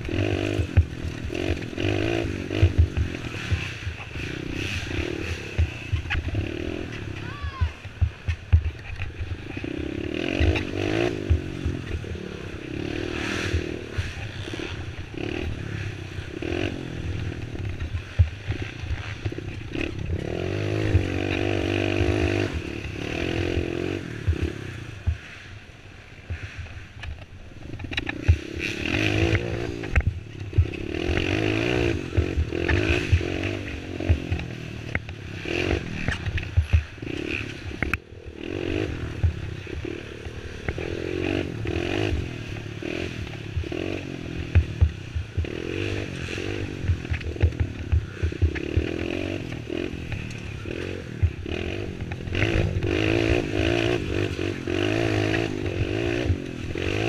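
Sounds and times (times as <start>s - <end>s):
quad engine revving: 0.0s - 8.2s, 8.9s - 25.2s, 27.6s - 57.0s
knocks and clatter over bumps: 0.0s - 25.4s, 26.2s - 38.1s, 38.7s - 57.0s.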